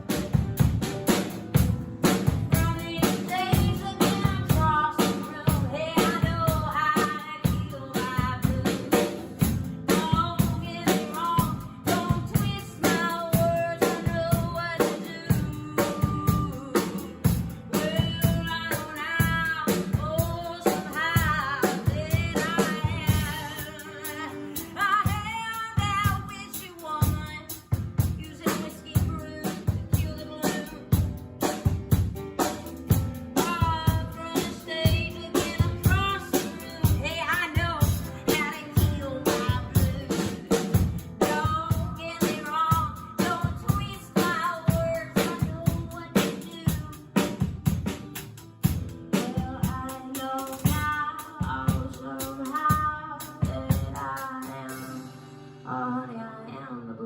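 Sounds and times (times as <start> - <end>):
woman singing: 0.0 - 31.8, 32.4 - 57.0
band with drum kit: 0.0 - 55.3.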